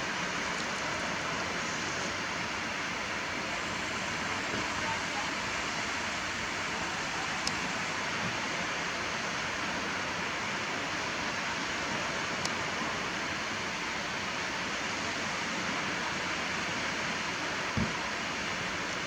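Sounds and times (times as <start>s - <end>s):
surf rushing: 0.0s - 19.0s.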